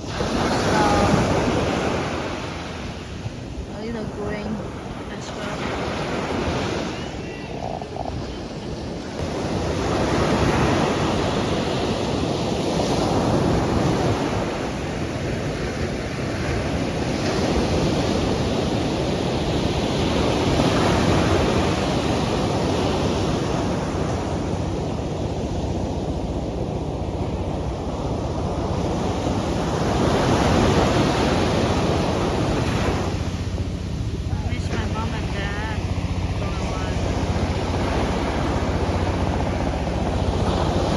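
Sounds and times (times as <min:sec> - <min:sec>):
sea surf washing onto beach: 0:00.0 - 0:40.9
wind buffeting microphone: 0:00.0 - 0:40.9.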